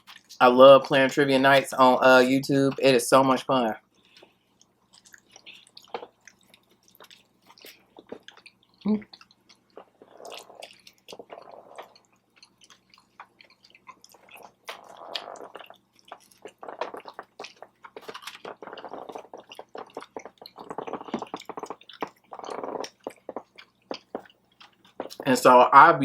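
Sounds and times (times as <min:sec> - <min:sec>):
close-up chewing food: 0:00.0 - 0:00.5, 0:03.8 - 0:25.6
wet mouth clicks: 0:04.0 - 0:25.3.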